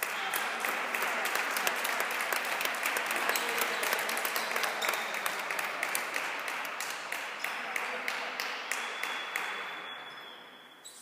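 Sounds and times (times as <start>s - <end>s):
spectators clapping: 0.0s - 10.2s.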